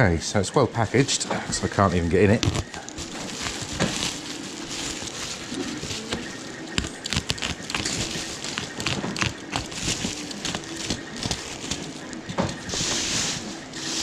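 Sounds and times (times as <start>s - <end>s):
packaging rustling and crinkling: 0.8s - 14.0s.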